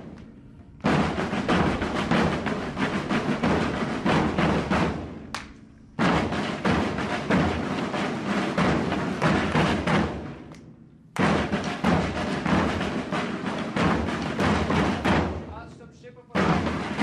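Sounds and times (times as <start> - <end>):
bass drums marching rhythm: 0.0 - 17.0.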